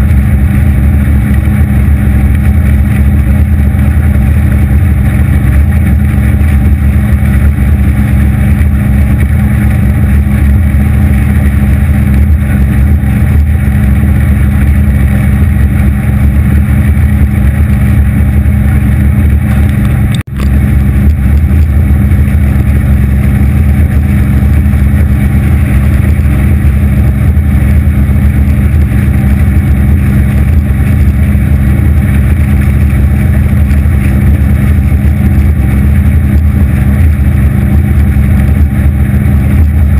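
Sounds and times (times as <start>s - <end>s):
outboard engine hum: 0.0s - 39.9s
rushing wind and water: 0.0s - 39.9s.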